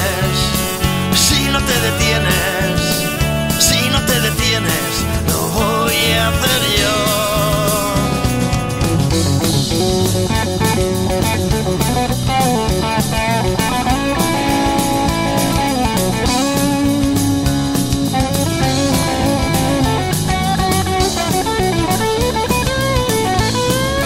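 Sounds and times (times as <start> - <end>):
bass: 0.0 - 24.0
drum kit beat: 0.0 - 24.0
electric guitar melody: 0.0 - 24.0.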